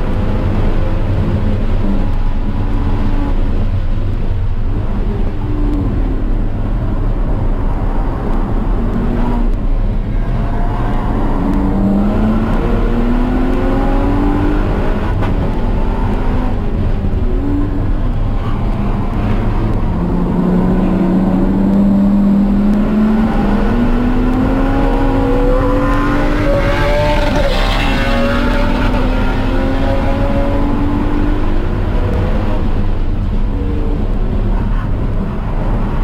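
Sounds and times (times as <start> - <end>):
car engine accelerating: 0.0 - 36.0
road and wind noise: 0.0 - 36.0.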